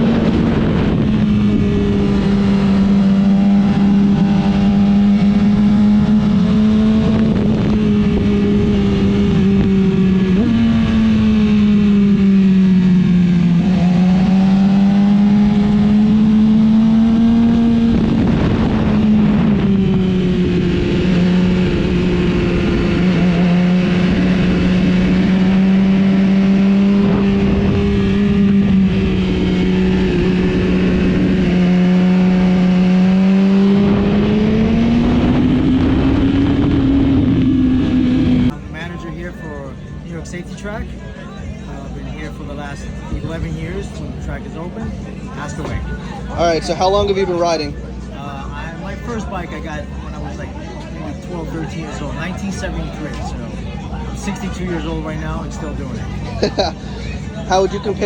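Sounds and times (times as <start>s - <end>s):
motorcycle engine at high revs: 0.0s - 58.0s
steady rush of noise: 0.0s - 58.0s.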